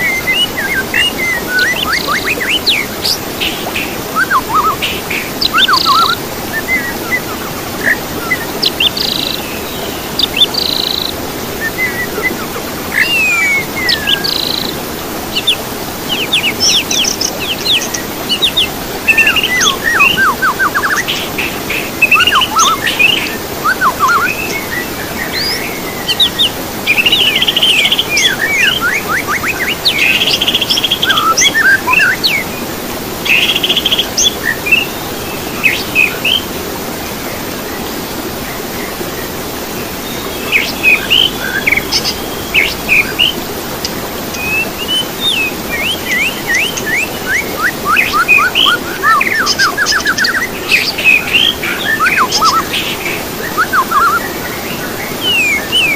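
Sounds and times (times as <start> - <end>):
songbirds chirping and trilling: 0.0 - 55.9
steady background hiss: 0.0 - 55.9.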